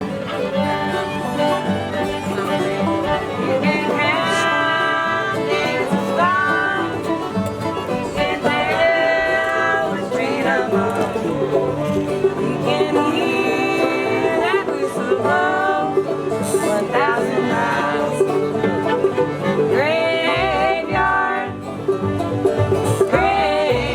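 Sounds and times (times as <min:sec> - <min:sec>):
acoustic guitar: 0:00.0 - 0:23.9
fiddle bowed notes: 0:00.0 - 0:23.9
plucked banjo: 0:00.0 - 0:23.9.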